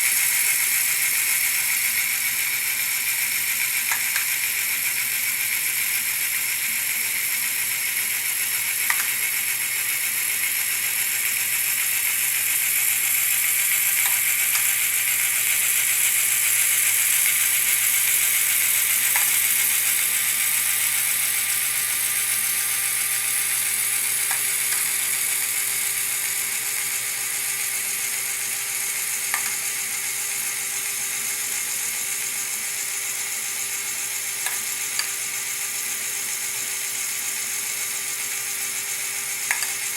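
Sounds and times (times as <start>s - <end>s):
toy motor and gears whirring: 0.0s - 39.9s.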